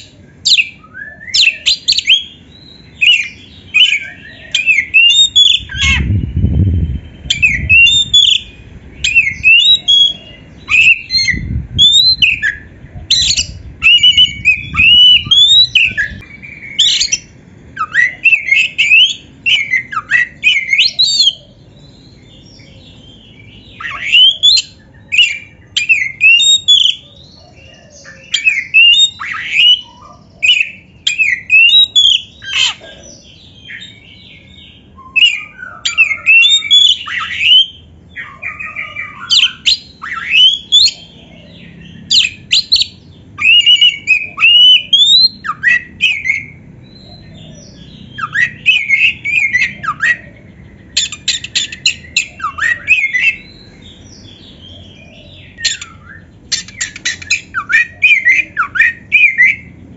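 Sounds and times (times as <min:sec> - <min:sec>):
bird singing whistled phrases: 0:00.0 - 0:27.1, 0:27.7 - 0:32.8, 0:35.0 - 0:41.1, 0:41.7 - 0:53.8, 0:54.7 - 0:59.7.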